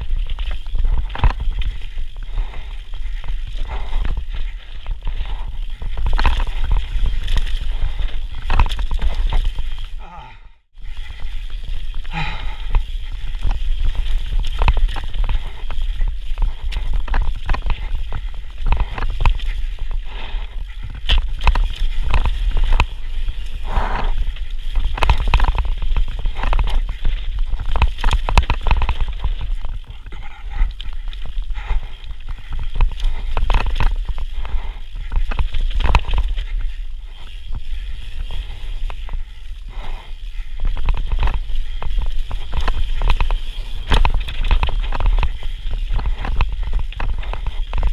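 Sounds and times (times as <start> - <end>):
bike knocks and rattles: 0.0 - 10.0, 11.2 - 39.2, 40.6 - 47.9
wind rumble on microphone: 0.0 - 10.0, 10.8 - 47.9
bike tyres on dirt and stones: 0.0 - 47.9.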